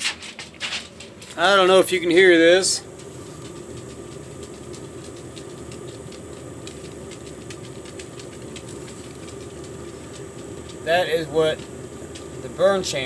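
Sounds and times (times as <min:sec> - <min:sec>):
heater burner rumbling: 0:00.0 - 0:13.0
light irregular ticks: 0:00.3 - 0:13.0.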